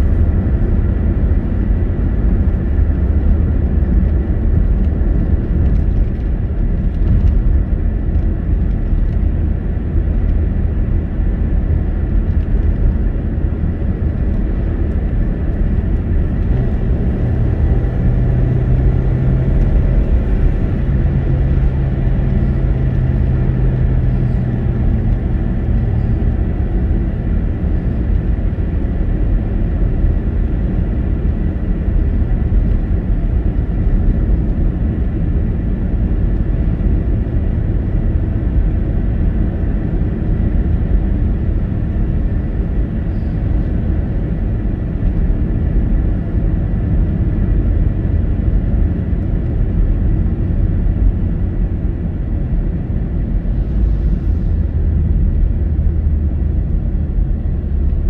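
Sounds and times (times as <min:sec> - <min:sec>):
car tyres on wet road: 0:00.0 - 0:58.0
low steady hum: 0:00.0 - 0:58.0.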